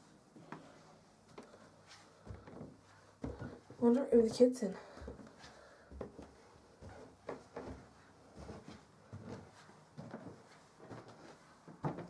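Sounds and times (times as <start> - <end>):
faint footsteps: 0.0 - 12.0.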